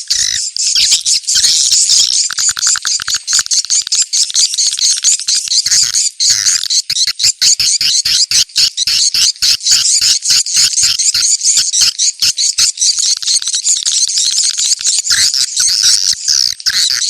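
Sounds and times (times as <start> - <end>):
swiftlet calls chittering: 0.0 - 17.0.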